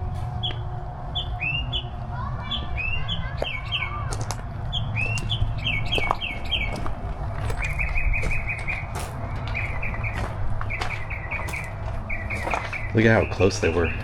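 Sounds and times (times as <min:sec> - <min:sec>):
steady low hum: 0:00.0 - 0:14.0
small songbird chirping: 0:00.4 - 0:04.0, 0:04.7 - 0:06.9, 0:07.5 - 0:14.0.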